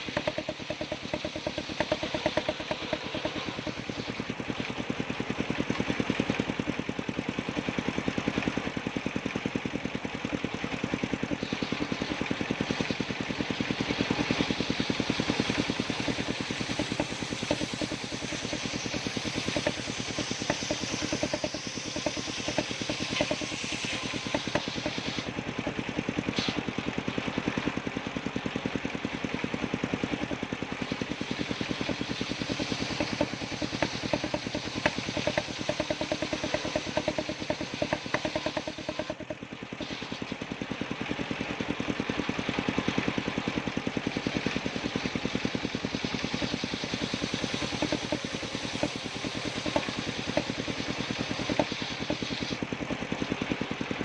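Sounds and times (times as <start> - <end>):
engine-driven sawmill running: 0.0 - 54.0.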